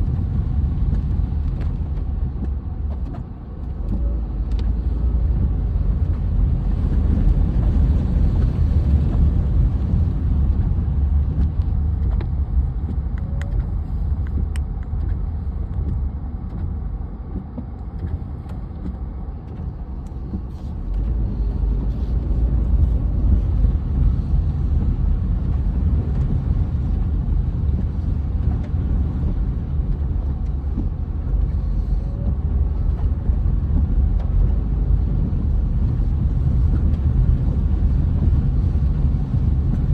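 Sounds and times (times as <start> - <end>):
road vehicle rumbling: 0.0 - 39.9.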